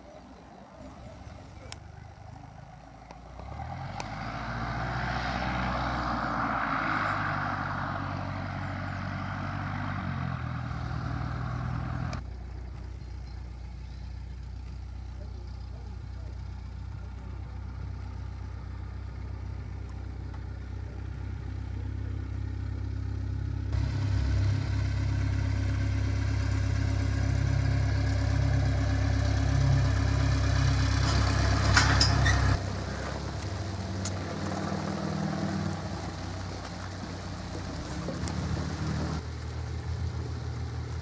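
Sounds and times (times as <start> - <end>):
propeller aircraft engine drone: 7.0 - 41.0.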